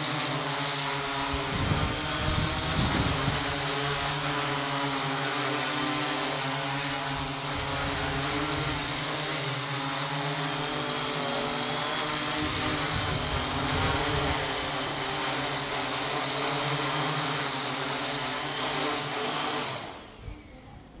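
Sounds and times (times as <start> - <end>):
drone motors humming and whining: 0.0 - 21.0.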